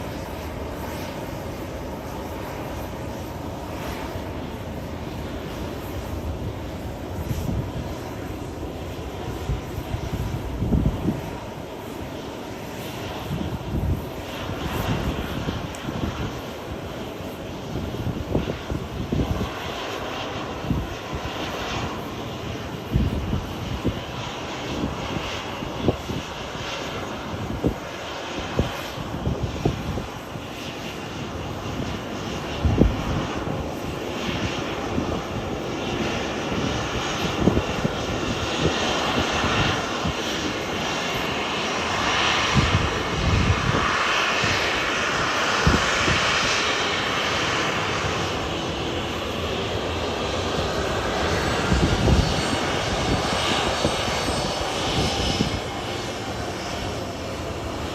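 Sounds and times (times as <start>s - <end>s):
jet engines rushing: 0.0s - 57.9s.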